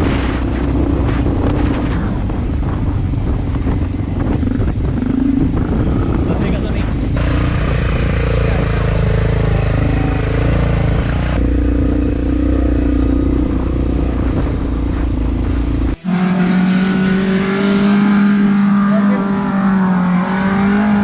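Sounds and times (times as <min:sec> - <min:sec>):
high-rev engine note: 0:00.0 - 0:21.0
music: 0:00.0 - 0:21.0
off-road engine running hard: 0:00.0 - 0:21.0.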